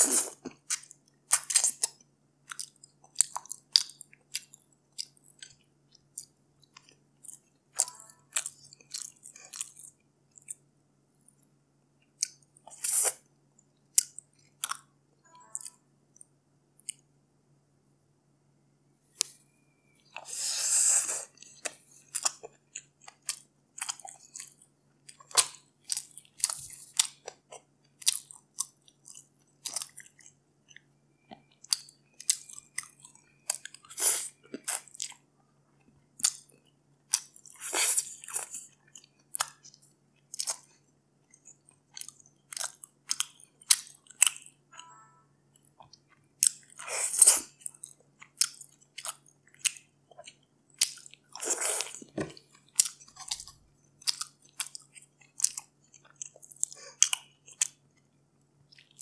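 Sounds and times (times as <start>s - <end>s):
person chewing wetly: 0.0s - 17.1s, 21.0s - 44.6s, 45.5s - 59.0s.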